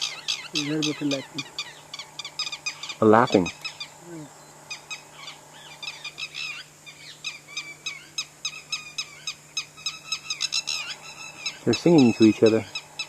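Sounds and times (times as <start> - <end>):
lapwings calling: 0.0 - 13.0.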